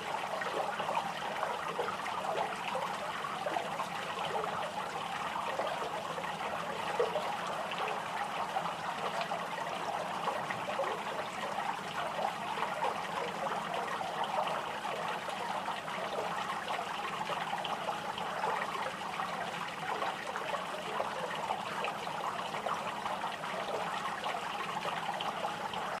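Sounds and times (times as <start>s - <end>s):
fountain water trickling: 0.0s - 26.0s.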